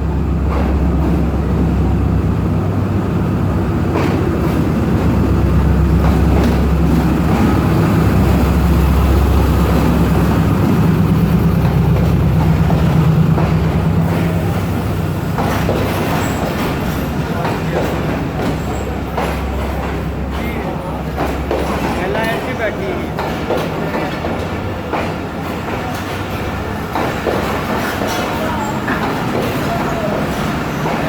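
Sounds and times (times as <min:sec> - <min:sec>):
locomotive engine drone: 0:00.0 - 0:31.0
train coaches rolling past: 0:00.0 - 0:31.0.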